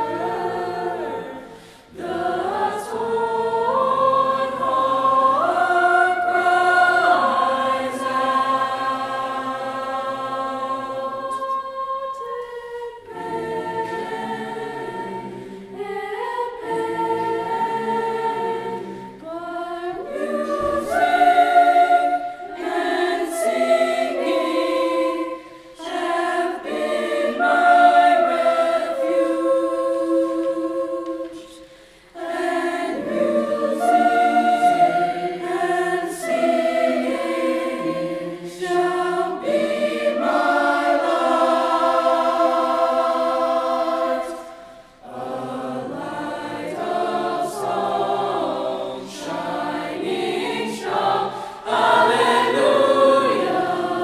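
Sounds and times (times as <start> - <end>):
choir singing unaccompanied: 0.0 - 54.0.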